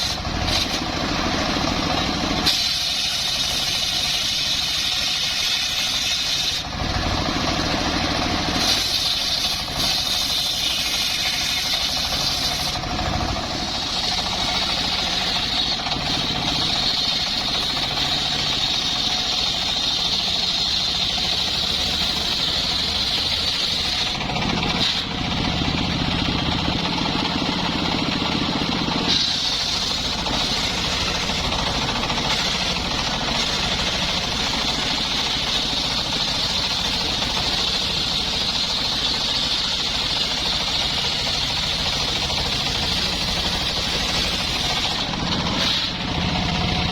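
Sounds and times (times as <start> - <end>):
chainsaw running at high revs: 0.0 - 46.9.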